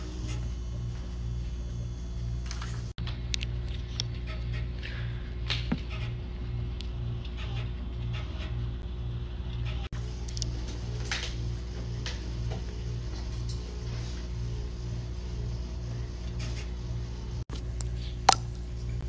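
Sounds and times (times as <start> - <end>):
pulsing low hum: 0.0 - 19.0.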